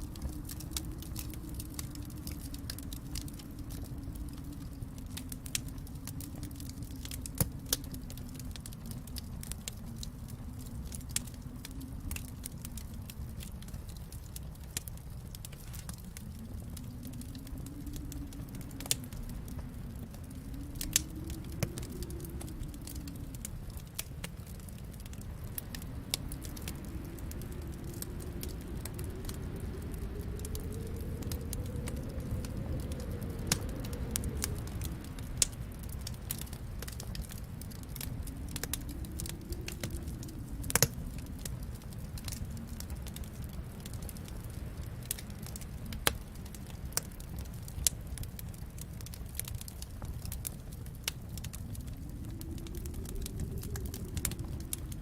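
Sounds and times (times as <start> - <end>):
fire pops and snaps: 0.0 - 55.0
low rumble of fire: 0.0 - 55.0
wood fire crackling: 0.0 - 55.0.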